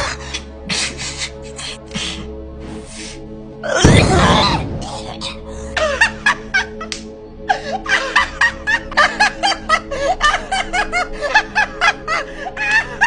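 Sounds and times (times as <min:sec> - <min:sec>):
background music with held notes: 0:00.0 - 0:13.0.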